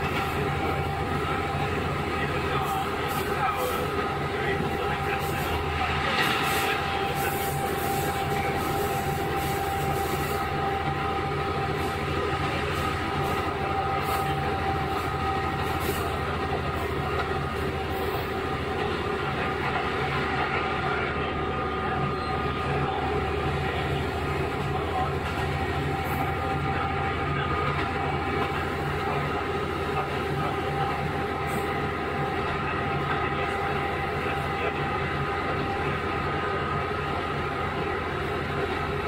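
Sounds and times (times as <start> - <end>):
diesel railcar engine running: 0.0 - 39.0
wheel and rail noise: 0.0 - 39.0.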